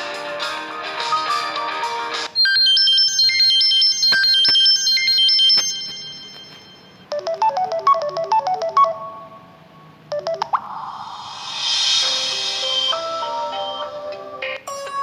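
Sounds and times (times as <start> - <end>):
high chiming ringtone melody: 2.4 - 15.0
lower quick ringtone melody: 2.4 - 15.0.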